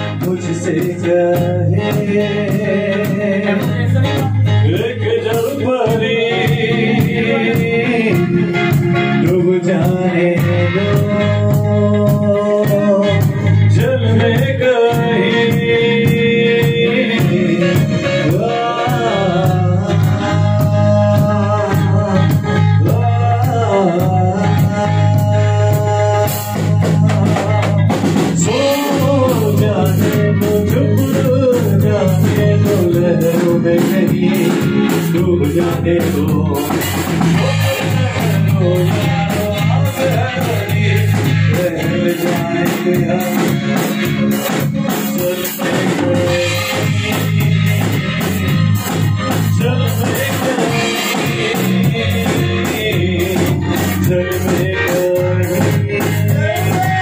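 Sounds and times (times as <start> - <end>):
live rock band playing: 0.0 - 57.0
person singing into microphone: 0.0 - 57.0.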